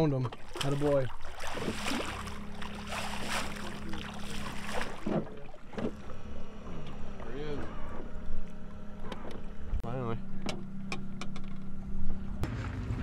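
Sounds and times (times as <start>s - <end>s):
boat motor humming: 0.0s - 13.0s
low steady drone: 1.5s - 13.0s.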